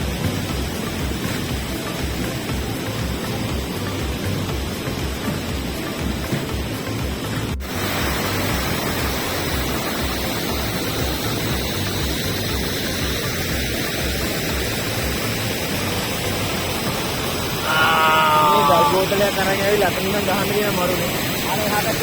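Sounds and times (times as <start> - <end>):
waterfall rushing water: 0.0 - 22.0.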